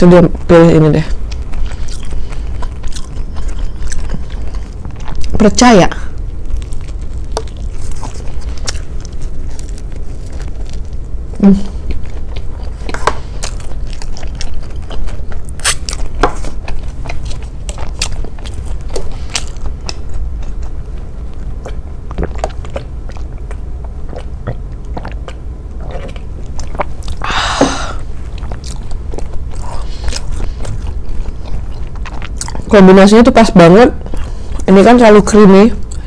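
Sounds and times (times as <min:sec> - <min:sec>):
steady low hum: 0:00.0 - 0:36.0
crunchy toast chewing: 0:01.1 - 0:32.8.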